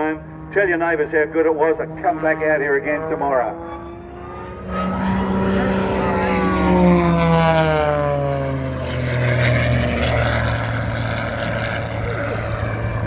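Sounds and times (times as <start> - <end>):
propeller plane engine passing: 0.0 - 13.0.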